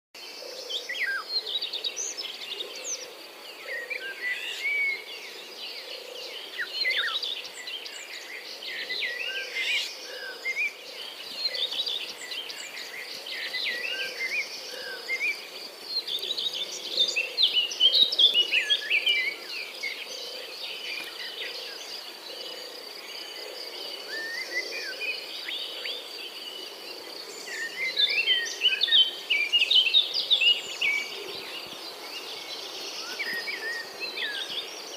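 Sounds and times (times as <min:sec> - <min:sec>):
songbirds chirping and whistling: 0:00.2 - 0:34.9.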